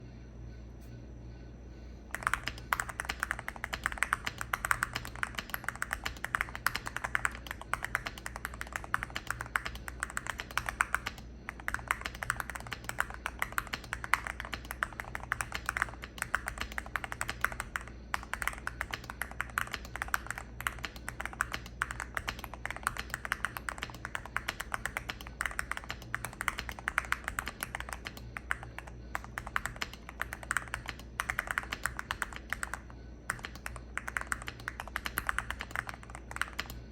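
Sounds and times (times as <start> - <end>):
fast typing on mechanical keyboard: 2.1 - 36.9.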